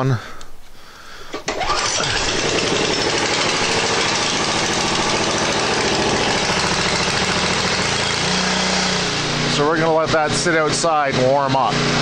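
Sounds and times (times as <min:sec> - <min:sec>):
snowblower engine running: 0:01.5 - 0:12.0.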